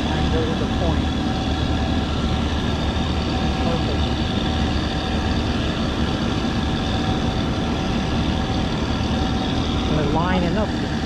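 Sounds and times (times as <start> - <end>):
constant hum of held tones: 0.0 - 11.0
steady low rumble: 0.0 - 11.0.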